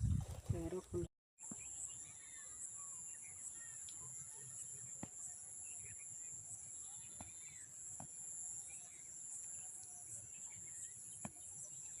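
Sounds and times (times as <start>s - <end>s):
bird chirps: 1.4s - 12.0s
insects chorus: 1.4s - 12.0s.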